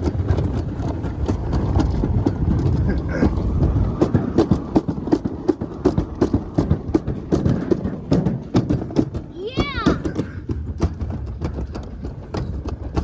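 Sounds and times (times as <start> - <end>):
miniature train rumbling: 0.0 - 13.0
train wheels clicking: 0.0 - 13.0.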